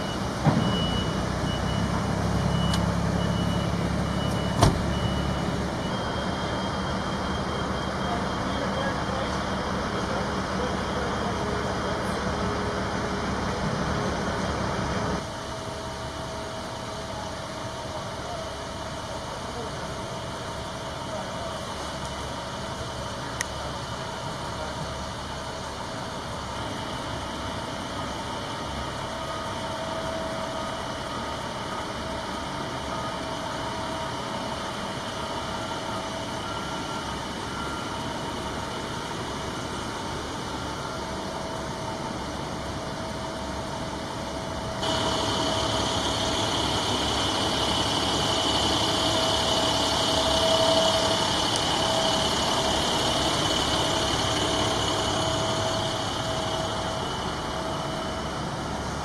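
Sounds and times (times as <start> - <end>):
truck engines idling: 0.0 - 59.0.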